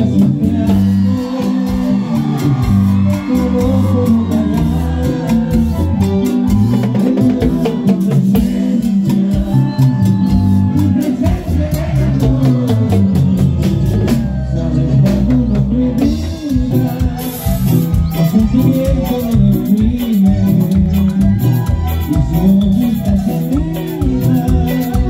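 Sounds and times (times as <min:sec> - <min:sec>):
accordion: 0:00.0 - 0:25.0
bass line: 0:00.0 - 0:25.0
congas: 0:00.0 - 0:25.0
live band playing dance music: 0:00.0 - 0:25.0.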